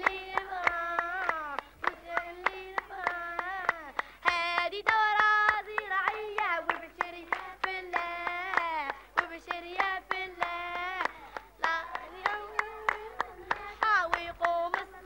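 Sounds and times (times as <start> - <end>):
children singing: 0.0 - 15.0
hands clapping a beat: 0.0 - 15.0.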